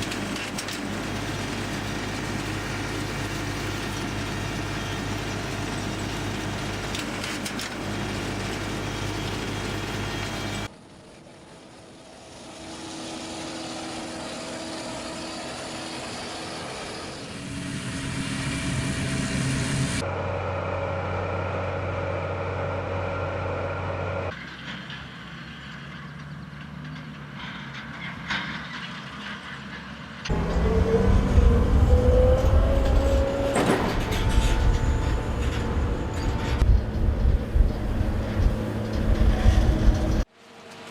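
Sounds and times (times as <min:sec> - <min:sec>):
farm machinery running: 0:00.0 - 0:40.9.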